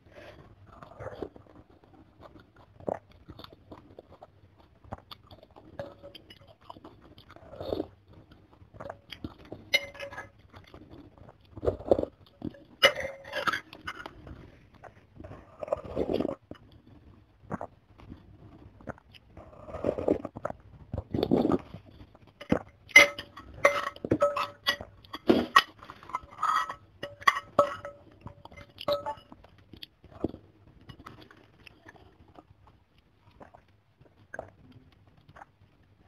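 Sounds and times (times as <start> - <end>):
chewing: 0.0 - 36.0.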